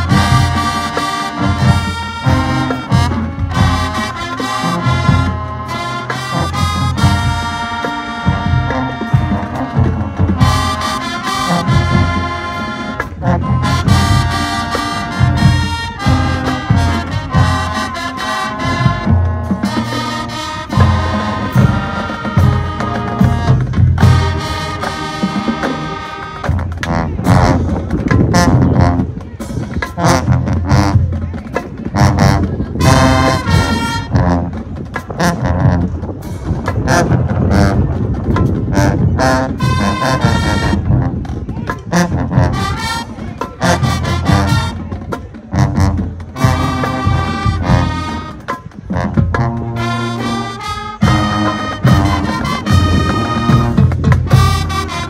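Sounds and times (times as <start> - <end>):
marching band brass chords: 0.0 - 55.0
marching drums: 0.0 - 55.0.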